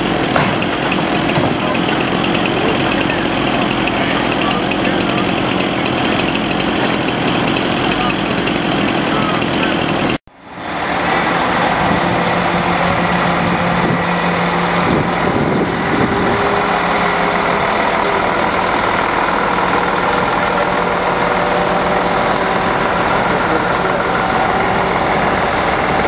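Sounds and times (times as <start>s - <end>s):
crane engine humming: 0.0s - 26.0s.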